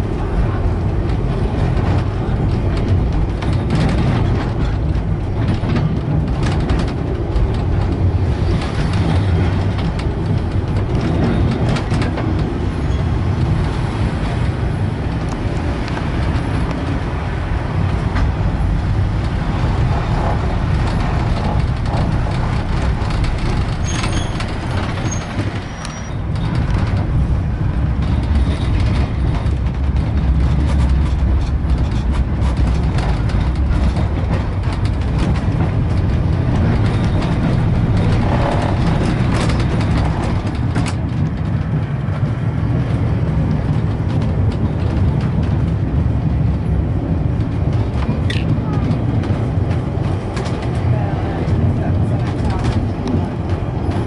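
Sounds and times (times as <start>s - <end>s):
tram wheels rumbling on rails: 0.0s - 54.0s.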